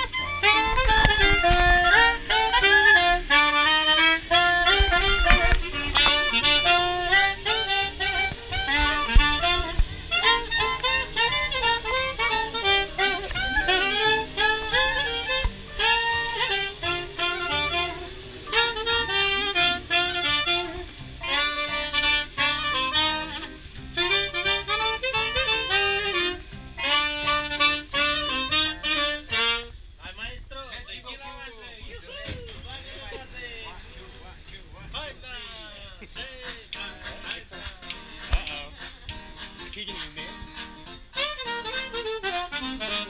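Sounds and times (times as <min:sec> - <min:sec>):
clarinet and saxophone playing jazz: 0:00.0 - 0:32.2, 0:35.4 - 0:43.0.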